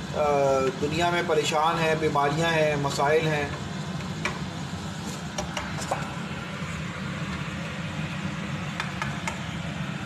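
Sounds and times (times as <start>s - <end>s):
kitchen machinery humming: 0.0s - 10.0s.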